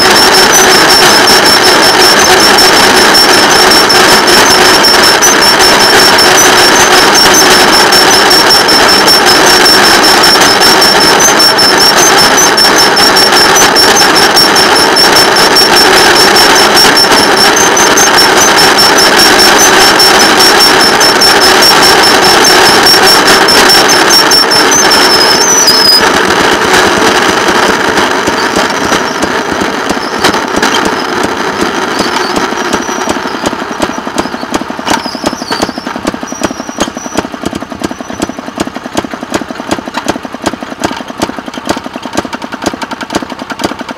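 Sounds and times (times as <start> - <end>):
thin high whine: 0.0 - 39.1.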